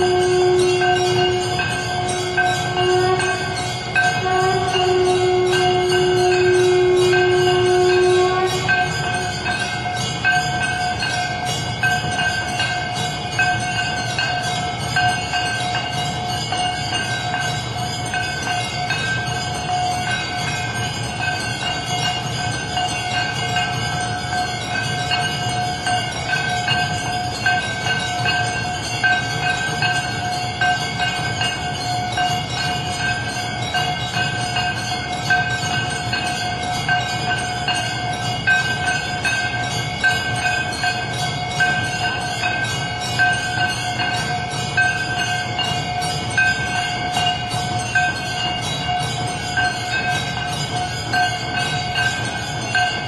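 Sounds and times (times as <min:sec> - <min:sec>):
bells ringing: 0:00.0 - 0:53.0.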